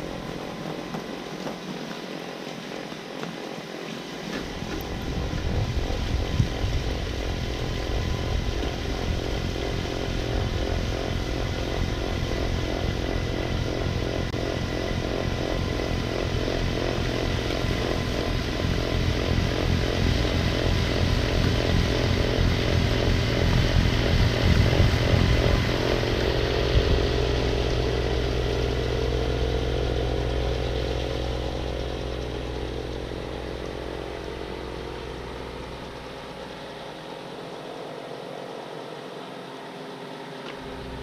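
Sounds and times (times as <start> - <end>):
snowblower engine running: 0.0 - 41.0.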